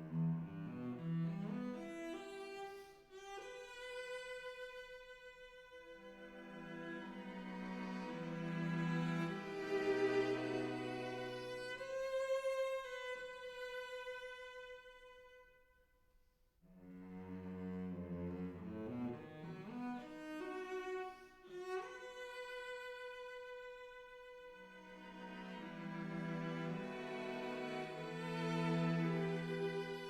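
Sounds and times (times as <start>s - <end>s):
slow string music: 0.0s - 15.5s, 16.7s - 30.0s.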